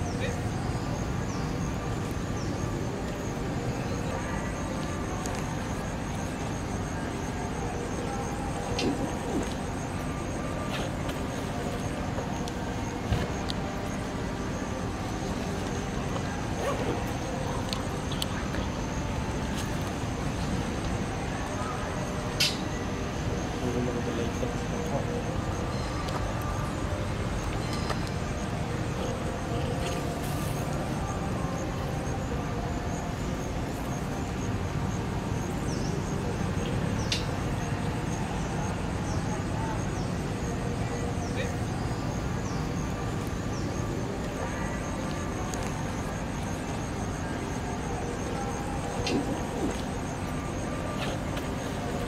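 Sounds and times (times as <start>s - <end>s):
outdoor background rumble: 0.0s - 52.0s.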